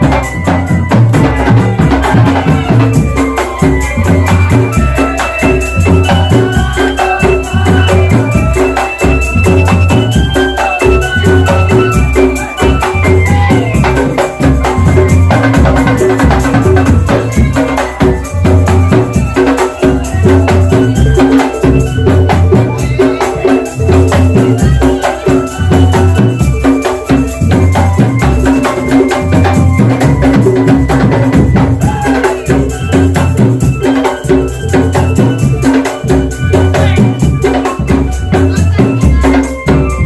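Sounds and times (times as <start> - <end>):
deep drums beating: 0.0 - 40.0
melody line: 0.0 - 40.0
rattling percussion: 0.0 - 40.0.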